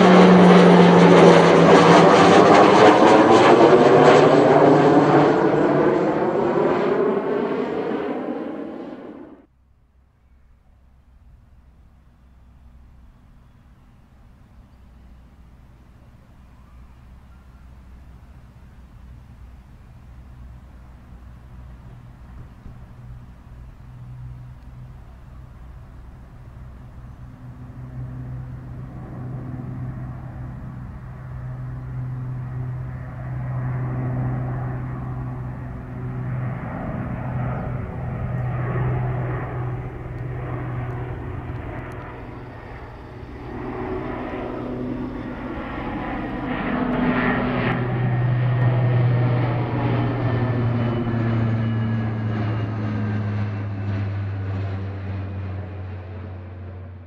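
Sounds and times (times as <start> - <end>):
propeller drone: 0.0 - 57.0
turbine whine: 0.0 - 57.0.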